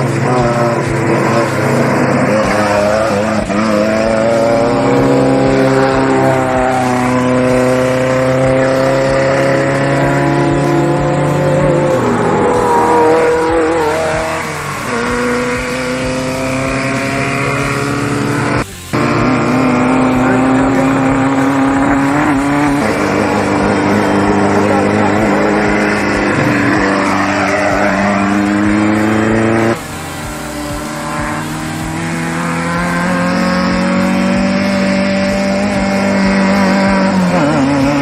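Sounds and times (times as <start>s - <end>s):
race vehicle engines revving: 0.0s - 38.0s
steady low engine note: 0.0s - 38.0s.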